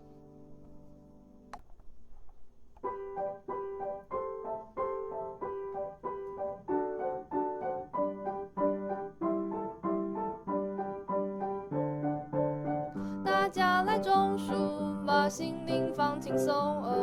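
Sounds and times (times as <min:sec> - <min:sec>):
piano music: 0:00.0 - 0:01.6, 0:02.8 - 0:17.0.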